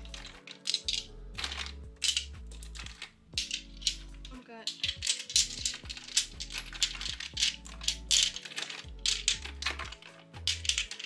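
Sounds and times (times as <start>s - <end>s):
small glass bottles clinking: 0.0s - 11.0s.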